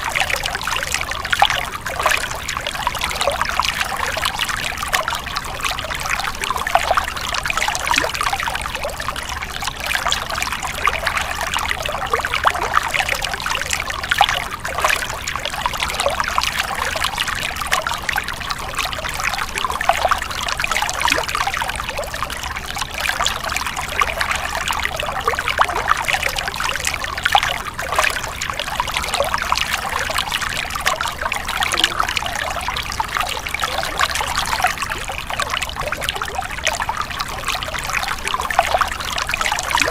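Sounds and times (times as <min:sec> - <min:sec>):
stream water splashing: 0:00.0 - 0:39.9.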